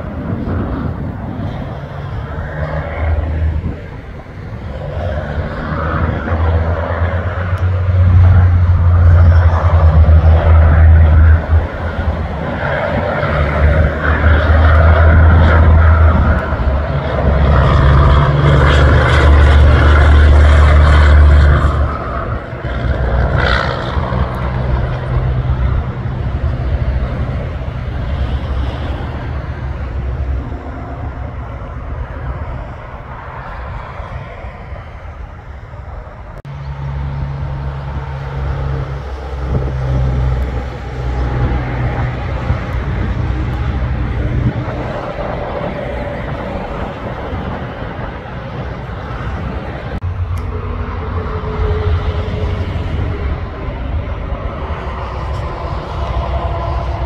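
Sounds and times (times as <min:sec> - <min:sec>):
truck diesel engines droning: 0:00.0 - 0:57.0
tyre and road noise: 0:00.0 - 0:57.0.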